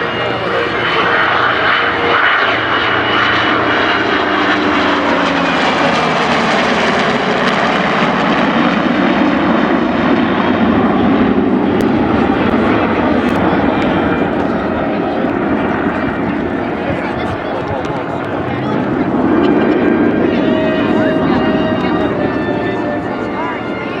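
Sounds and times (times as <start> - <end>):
jet and propeller planes flying past: 0.0 - 24.0.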